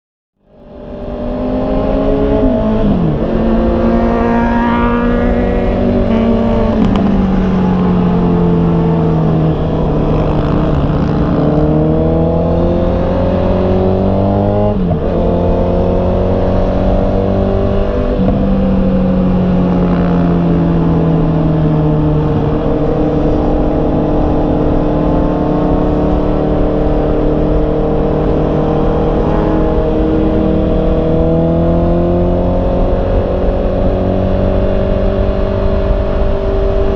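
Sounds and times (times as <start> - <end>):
motorcycle engine accelerating: 0.5 - 36.9.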